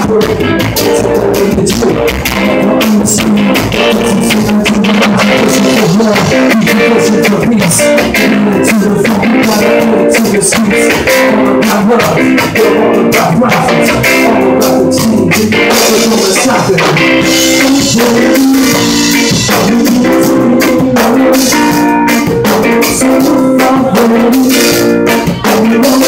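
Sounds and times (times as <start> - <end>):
bass guitar: 0.0 - 26.0
drum kit: 0.0 - 26.0
electric guitar: 0.0 - 26.0
man singing: 0.0 - 26.0.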